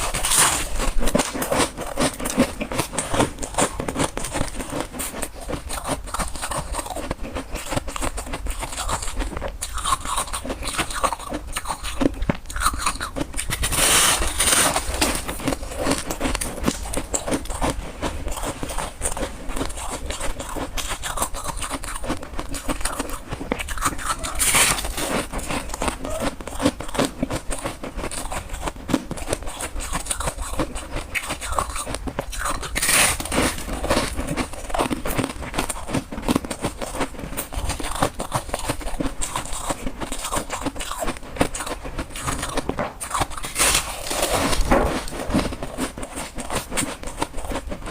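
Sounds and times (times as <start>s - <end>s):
person chewing crunchy frost: 0.0s - 47.9s.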